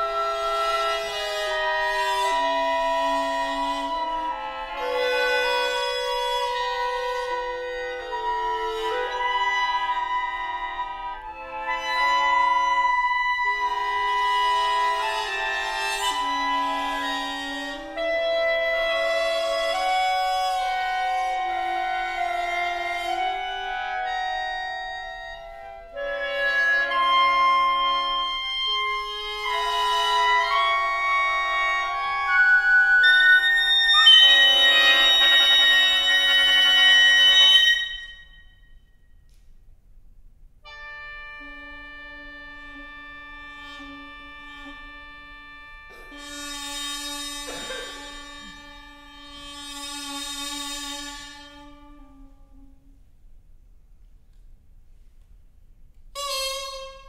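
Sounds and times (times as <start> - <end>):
held wind instrument notes: 0.0 - 39.5, 40.5 - 57.0.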